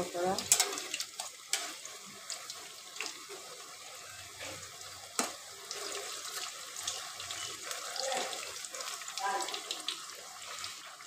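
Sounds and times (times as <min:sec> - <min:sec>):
deep-frying sizzle with crackles: 0:00.0 - 0:11.0.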